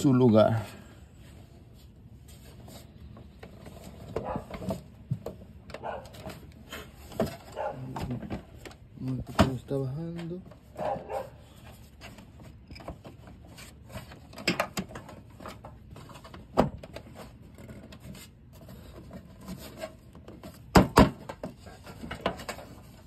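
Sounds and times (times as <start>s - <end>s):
light rubbing of plastic parts: 0.1s - 23.0s.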